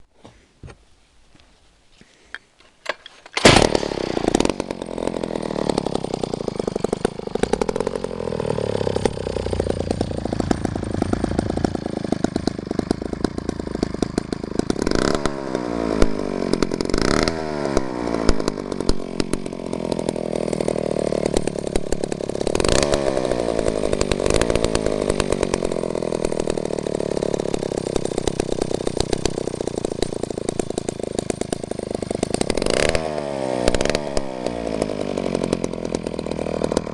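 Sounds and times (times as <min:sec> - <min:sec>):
chainsaw engine revving: 0:03.3 - 0:36.9.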